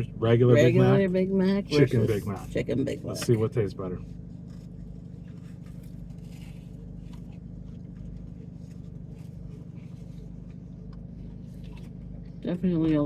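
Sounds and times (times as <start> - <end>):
low hum inside car: 0.0 - 13.0.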